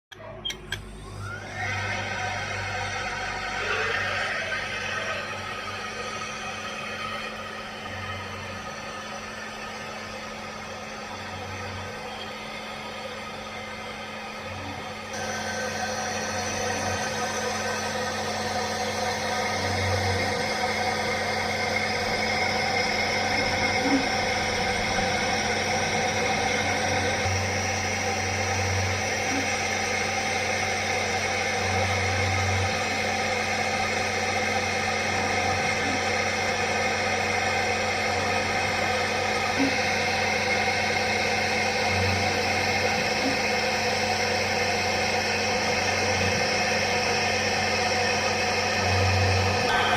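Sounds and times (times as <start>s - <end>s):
machine whine over hum: 0.1s - 49.9s.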